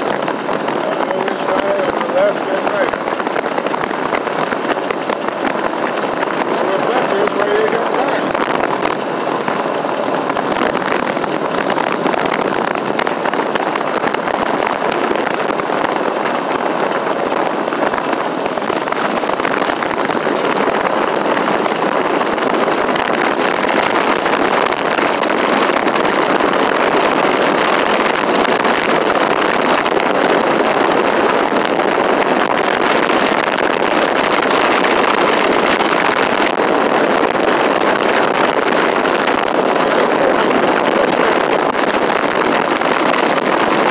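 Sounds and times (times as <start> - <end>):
bicycle road noise: 0.0 - 43.9
wind noise on microphone: 0.0 - 43.9.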